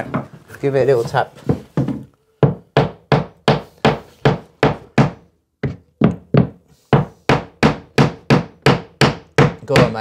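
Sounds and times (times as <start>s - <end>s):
hammer knocking on wood: 1.4s - 10.0s.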